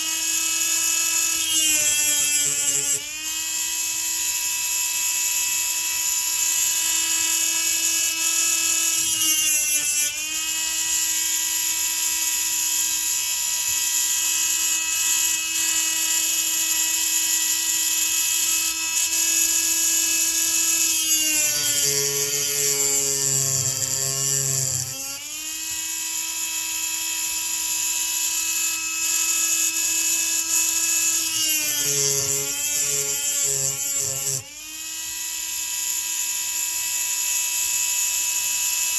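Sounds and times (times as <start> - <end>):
rotary grinding tool whining: 0.0 - 38.9.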